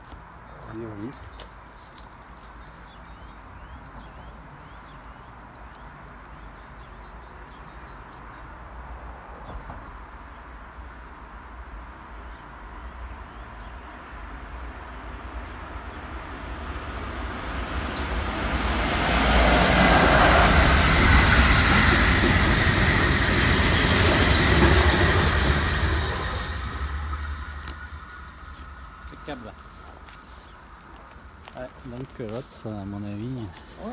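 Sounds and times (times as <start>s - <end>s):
train passing on rails: 0.0s - 33.9s.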